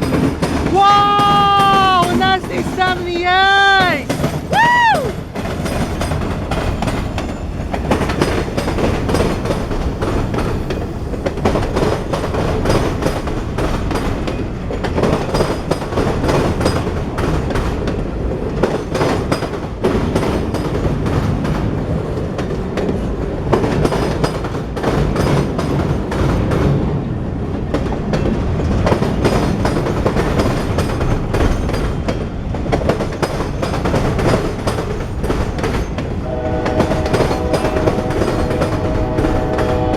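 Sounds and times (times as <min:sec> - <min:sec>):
wheels clacking and knocking: 0:00.0 - 0:26.9, 0:27.6 - 0:39.9
freight train wheels rumbling on rail: 0:00.0 - 0:39.9.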